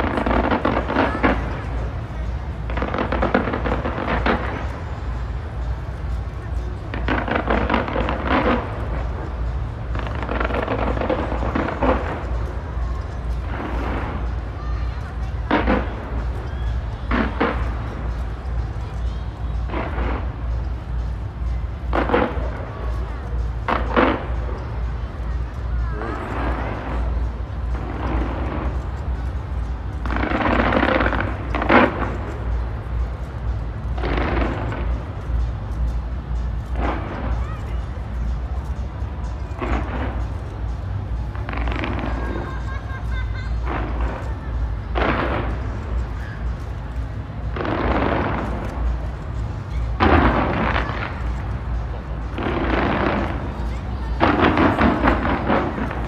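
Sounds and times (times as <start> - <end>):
fireworks booming: 0.0 - 25.0, 26.0 - 37.8, 38.7 - 56.0
fireworks crackling: 0.0 - 56.0.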